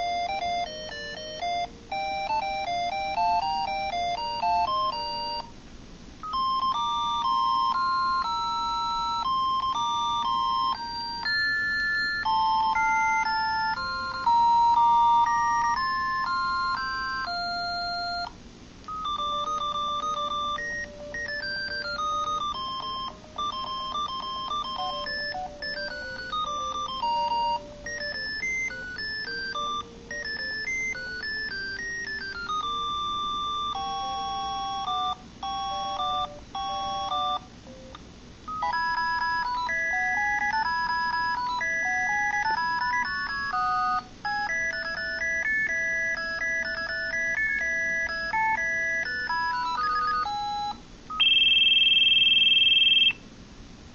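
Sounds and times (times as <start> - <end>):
beepy phone ringtone jingles: 0.0 - 5.5, 6.2 - 18.3, 18.9 - 37.9, 38.5 - 53.2.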